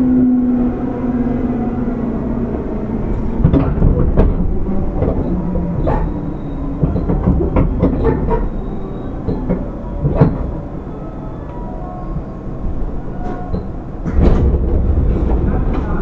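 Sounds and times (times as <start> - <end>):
train rumbling: 0.0 - 16.0
wheels clacking over rail joints: 2.8 - 16.0.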